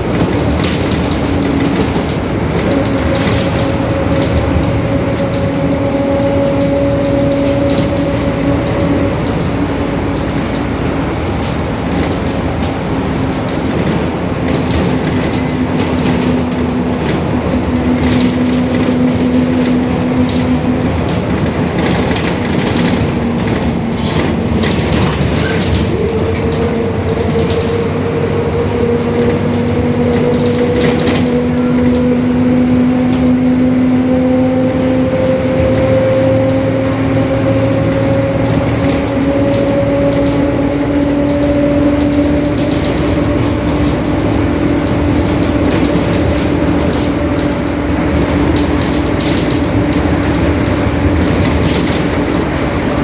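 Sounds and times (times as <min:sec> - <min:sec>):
bus differential humming: 0:00.0 - 0:53.0
bus engine and road noise: 0:00.0 - 0:53.0.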